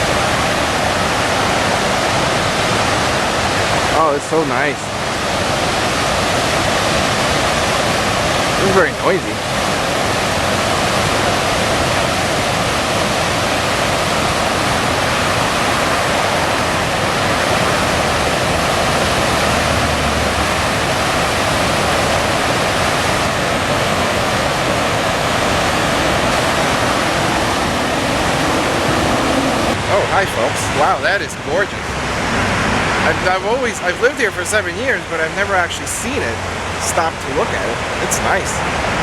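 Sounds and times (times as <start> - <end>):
waterfall splashing: 0.0 - 39.0.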